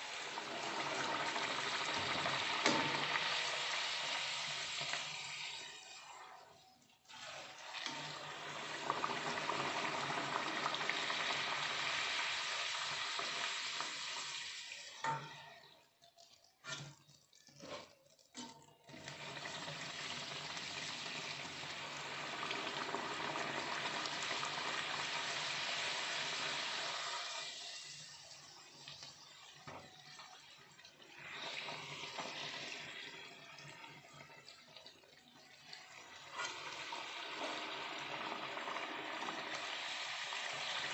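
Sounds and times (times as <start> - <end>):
oil sizzling and bubbling: 0.0 - 40.9.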